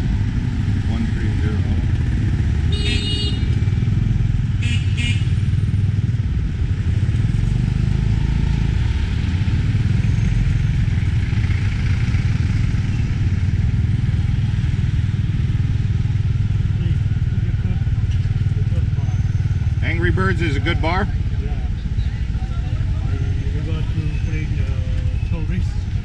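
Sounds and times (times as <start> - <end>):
road rumble: 0.0 - 26.0
tuk-tuk engine running: 0.0 - 26.0.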